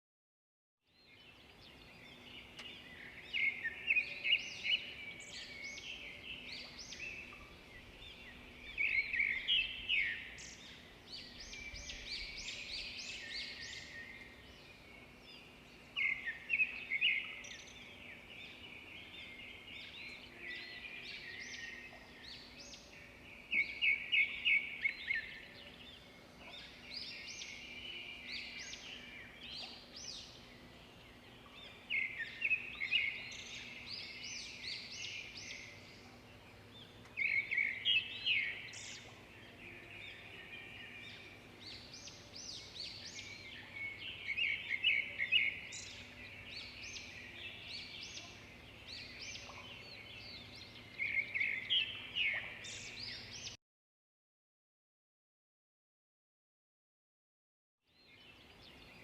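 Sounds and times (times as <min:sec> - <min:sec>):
songbirds singing: 0:00.8 - 0:53.6, 0:57.9 - 0:59.0.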